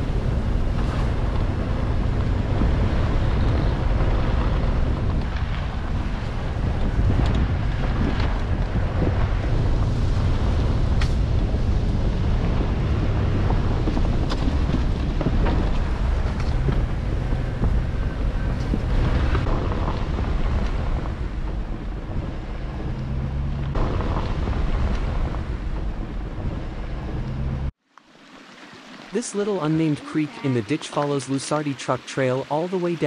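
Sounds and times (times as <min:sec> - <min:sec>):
wind buffeting microphone: 0:00.0 - 0:27.7
truck engine and tyre noise: 0:00.0 - 0:33.0.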